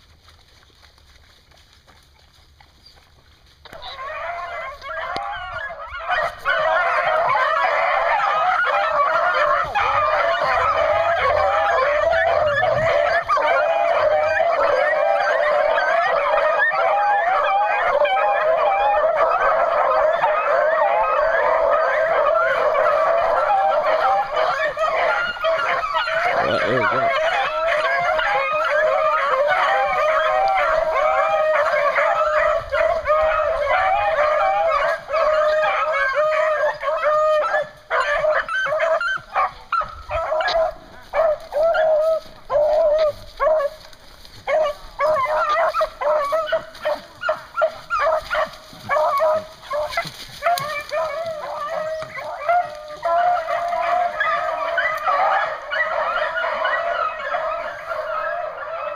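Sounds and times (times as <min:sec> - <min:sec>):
beagles baying: 0:03.7 - 0:58.9.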